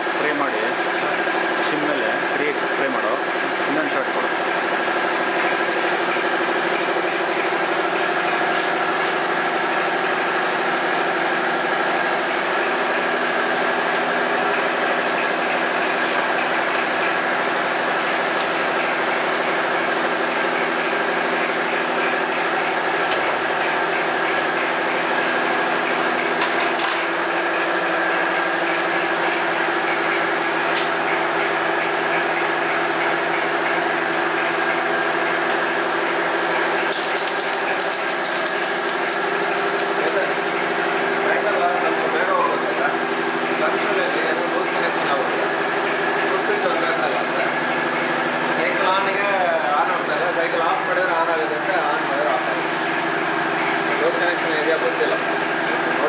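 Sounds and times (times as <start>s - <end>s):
machine humming: 0.0s - 56.0s.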